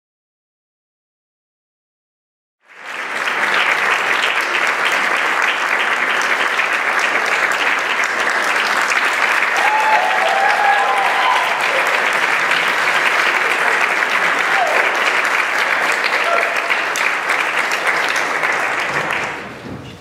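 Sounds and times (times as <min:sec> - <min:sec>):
audience applauding: 0:02.6 - 0:20.0.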